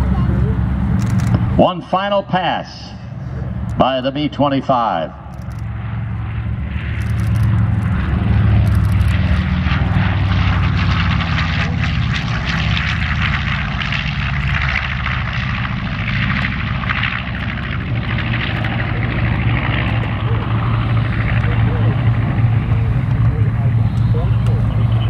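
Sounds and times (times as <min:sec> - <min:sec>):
propeller plane engines droning: 0:00.0 - 0:25.0.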